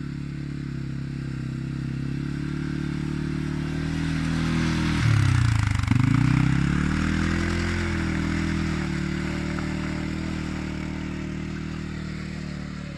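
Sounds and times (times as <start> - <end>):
quad bike engine running: 0.0 - 12.9.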